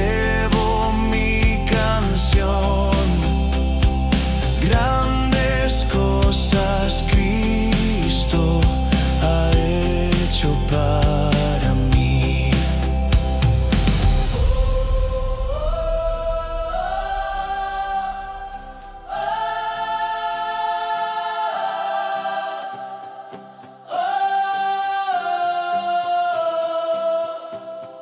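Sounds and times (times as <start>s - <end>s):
choir singing sustained chords: 0.0s - 28.0s.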